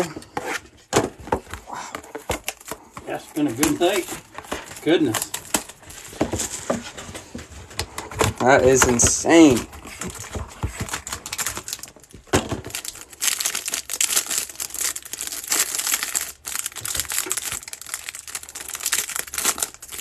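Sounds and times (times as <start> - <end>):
handling of cardboard box: 0.0 - 17.9
plastic wrapper crinkling: 2.1 - 6.7, 7.7 - 20.0.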